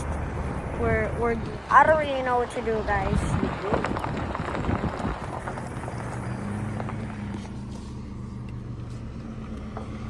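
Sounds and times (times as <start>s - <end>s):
truck engine low hum: 0.0s - 10.0s.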